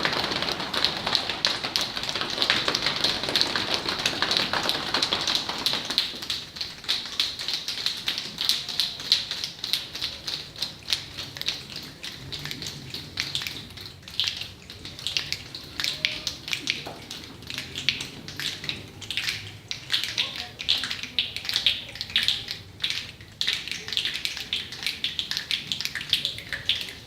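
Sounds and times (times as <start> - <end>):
children snapping and tapping hands: 0.0 - 27.0.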